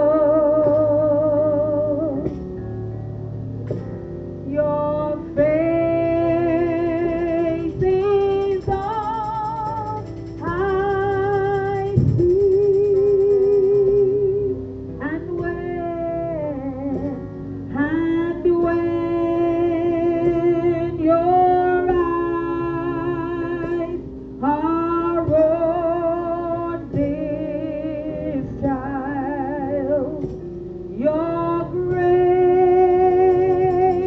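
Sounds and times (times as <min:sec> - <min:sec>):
woman singing into microphone: 0:00.0 - 0:02.4, 0:04.4 - 0:34.0
instrumental accompaniment: 0:00.0 - 0:34.0.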